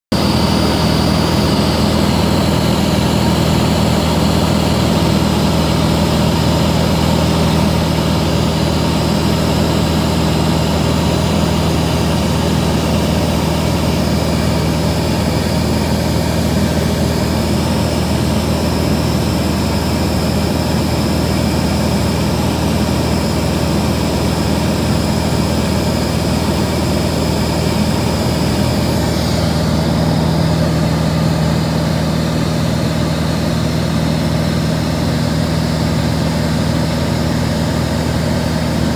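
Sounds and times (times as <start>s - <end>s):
light aircraft engine in flight: 0.1s - 38.9s.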